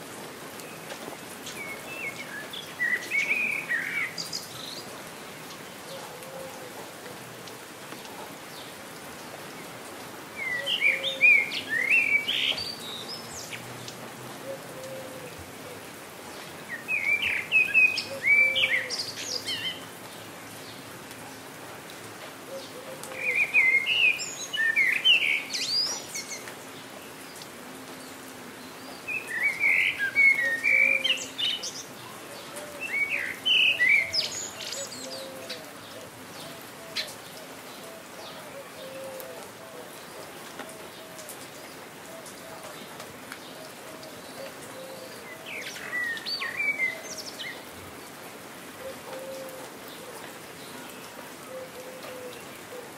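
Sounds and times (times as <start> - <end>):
rain hissing: 0.0 - 52.9
songbird chirping: 0.5 - 6.5, 8.4 - 21.2, 22.0 - 52.9.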